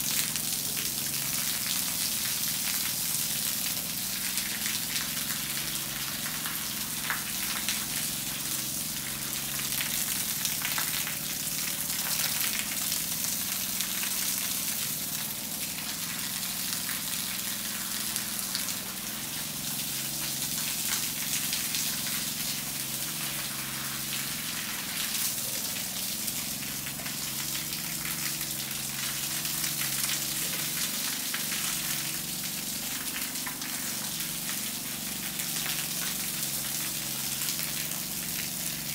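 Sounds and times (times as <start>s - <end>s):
water splashing on concrete floor: 0.0s - 38.9s.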